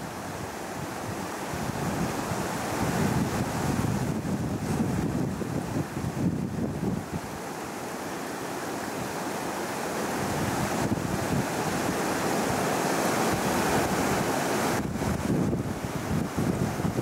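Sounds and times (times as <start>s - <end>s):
wind on microphone: 0.0s - 7.5s, 10.0s - 17.0s
river rushing over rocks: 0.0s - 17.0s.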